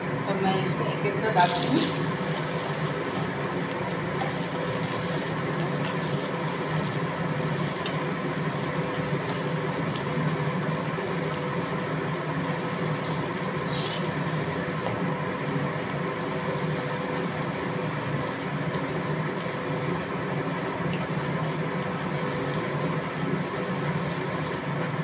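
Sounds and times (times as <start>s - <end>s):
oil sizzling and bubbling: 1.2s - 25.0s.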